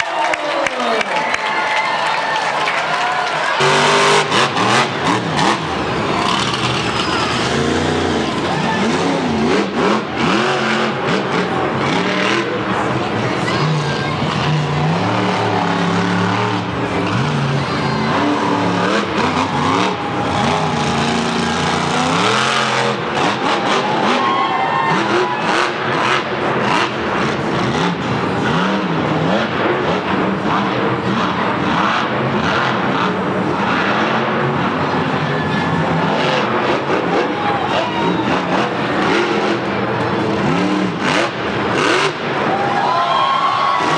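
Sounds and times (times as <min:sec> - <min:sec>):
truck engine revving: 0:02.4 - 0:43.9.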